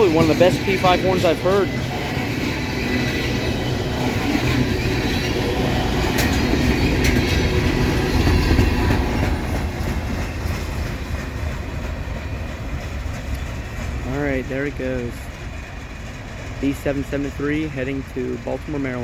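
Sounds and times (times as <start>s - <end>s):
freight train rolling past: 0.0s - 19.0s.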